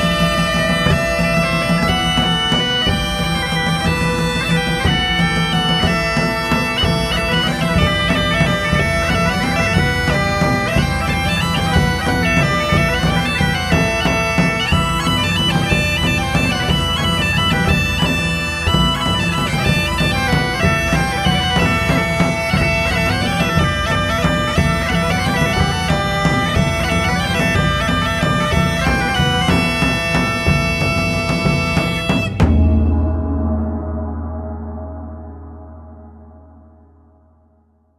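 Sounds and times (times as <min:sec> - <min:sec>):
bagpipe melody with drone: 0:00.0 - 0:33.1.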